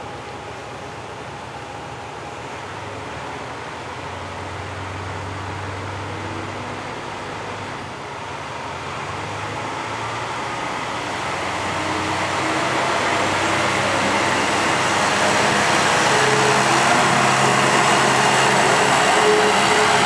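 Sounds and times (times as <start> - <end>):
diesel railcar engine humming: 0.0 - 20.0.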